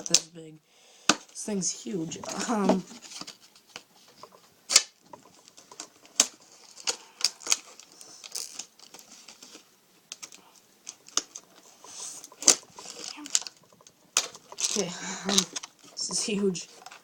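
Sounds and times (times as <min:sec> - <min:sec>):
plastic packaging clicks and crackles: 0:00.0 - 0:00.3, 0:02.2 - 0:17.0.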